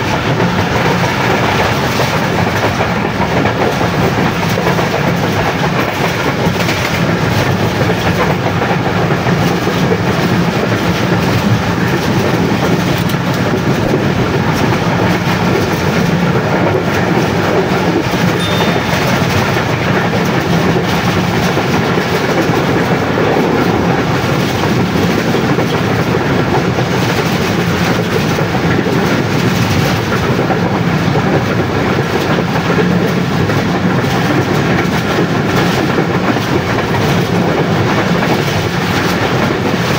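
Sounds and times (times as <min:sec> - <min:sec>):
rail joints clattering: 0:00.0 - 0:39.9
train wheels rushing on rails: 0:00.0 - 0:39.9.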